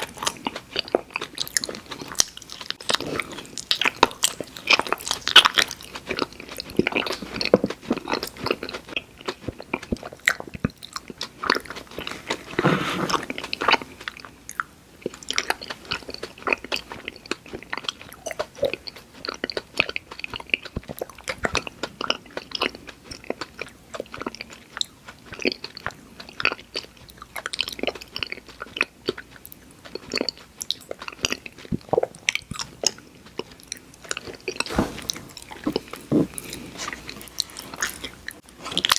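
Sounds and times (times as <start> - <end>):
chewing and biting candy: 0.0 - 38.9.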